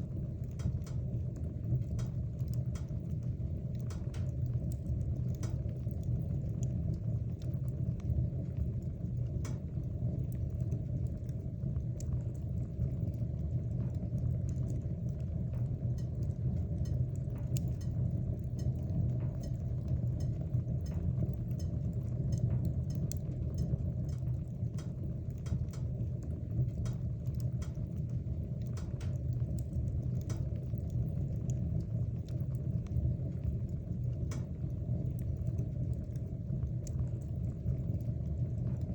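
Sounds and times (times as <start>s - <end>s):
fire crackling and popping: 0.0s - 38.9s
wood fire rumbling: 0.0s - 38.9s.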